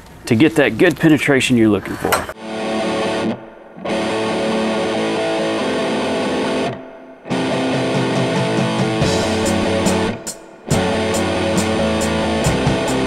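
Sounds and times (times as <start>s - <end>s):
guitar background music: 2.4s - 13.0s.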